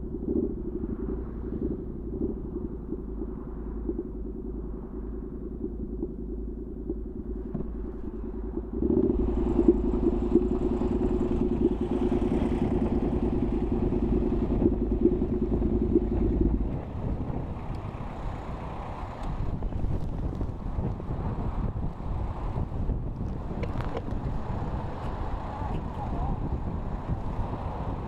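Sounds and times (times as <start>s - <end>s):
motorcycle engine pulsing exhaust: 0.0s - 28.0s.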